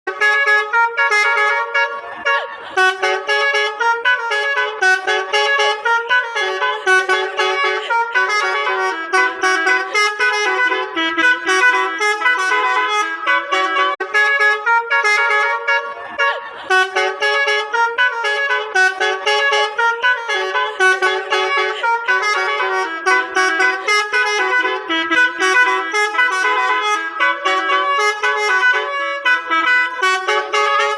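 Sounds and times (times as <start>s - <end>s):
musical bus horn melody: 0.1s - 30.9s.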